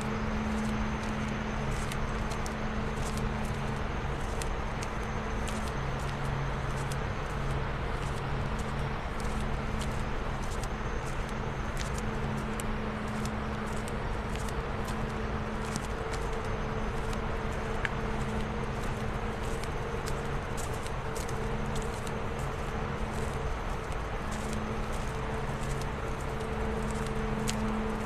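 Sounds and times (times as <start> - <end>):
conveyor belt rumble and hum: 0.0 - 28.0.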